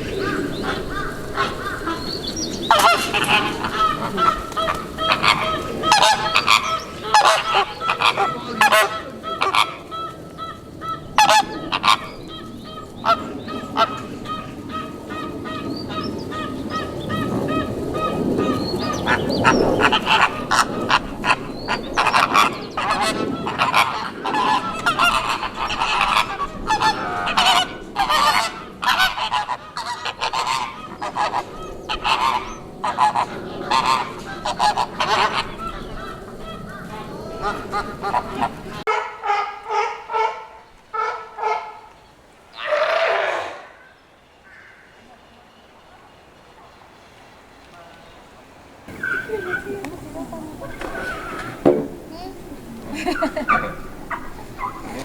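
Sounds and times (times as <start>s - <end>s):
flamingos honking: 0.0s - 55.0s.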